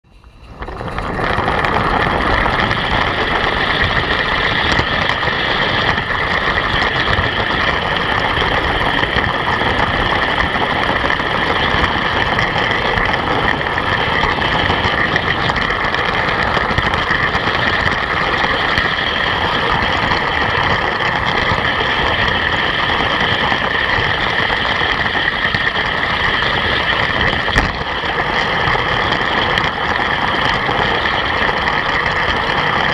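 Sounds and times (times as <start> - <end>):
steady high whine: 0.0 - 32.9
wheels rumbling on track: 0.0 - 32.9.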